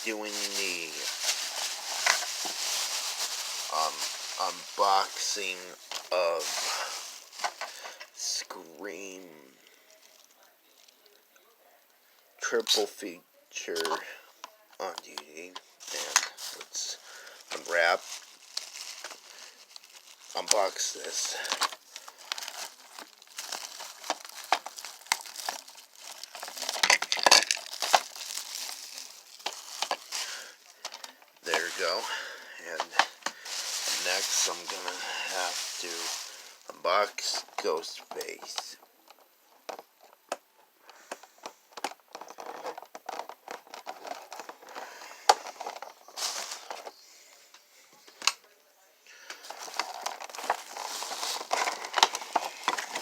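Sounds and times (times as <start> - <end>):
plastic wrapping crackling: 0.0 - 11.2, 13.7 - 47.0, 49.1 - 53.0.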